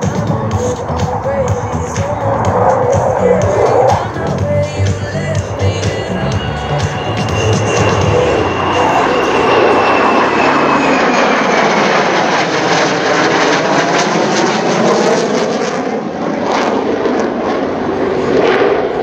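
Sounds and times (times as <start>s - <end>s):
high falling jet whine: 0.0s - 19.0s
jet engines flying past: 0.0s - 19.0s.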